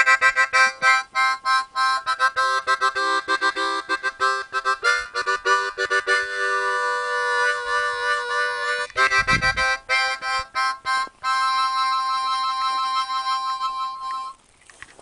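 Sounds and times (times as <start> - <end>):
harmonica chords: 0.0 - 14.4.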